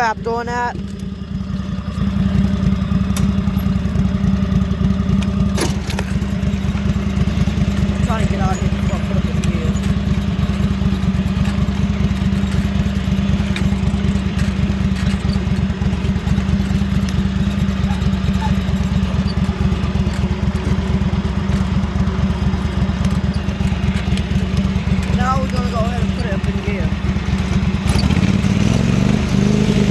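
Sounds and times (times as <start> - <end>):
lawn mower engine putter: 0.0 - 29.9.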